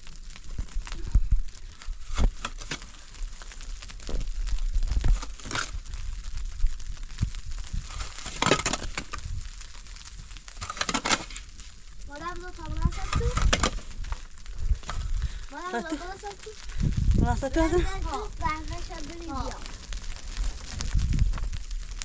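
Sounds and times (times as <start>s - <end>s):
crunching and crinkling: 0.0s - 22.0s.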